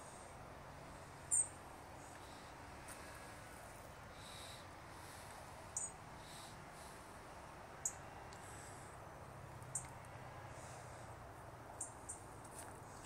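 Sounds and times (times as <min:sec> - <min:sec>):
small birds chirping: 0:00.0 - 0:03.4, 0:04.1 - 0:07.2, 0:07.8 - 0:08.9, 0:09.5 - 0:11.1, 0:11.7 - 0:13.0.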